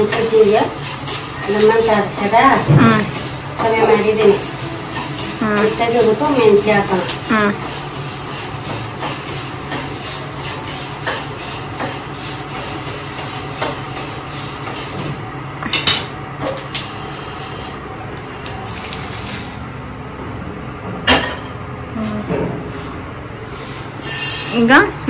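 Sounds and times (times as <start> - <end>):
steady low hum: 1.0 - 11.4, 12.8 - 24.0.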